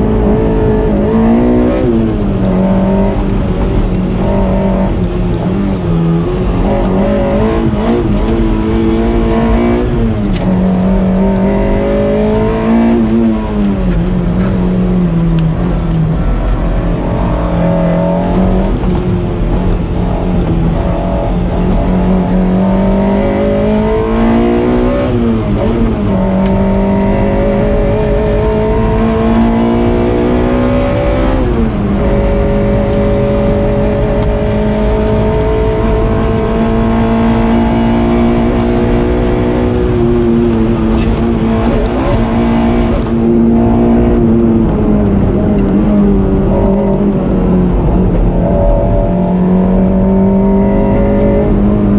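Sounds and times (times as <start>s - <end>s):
car engine revving hard: 0.0s - 51.9s.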